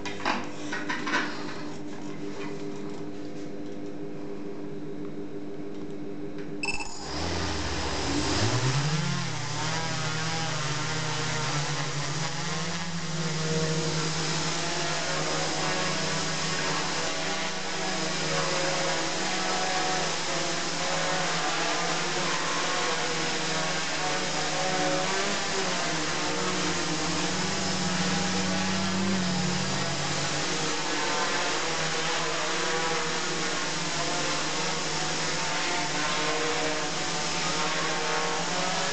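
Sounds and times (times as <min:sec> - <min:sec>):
quadcopter propellers buzzing: 0:06.6 - 0:38.9.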